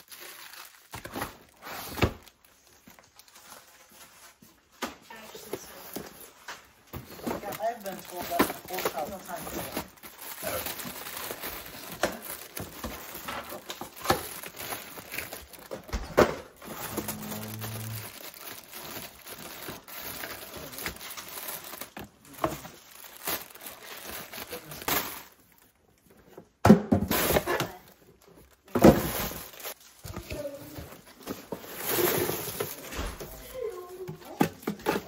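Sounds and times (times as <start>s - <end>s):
plastic wrappers crinkling: 0.0s - 26.4s, 27.1s - 35.0s.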